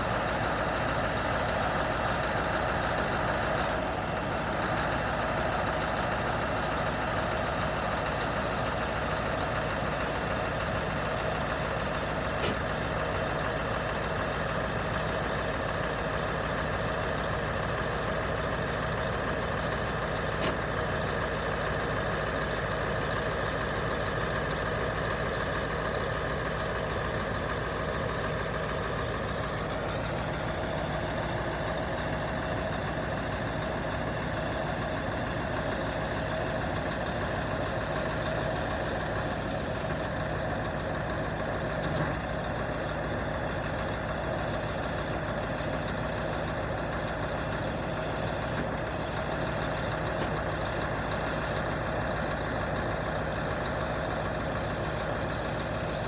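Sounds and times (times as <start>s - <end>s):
diesel truck engine running: 0.0s - 56.0s
hydraulic crane working: 0.0s - 56.0s.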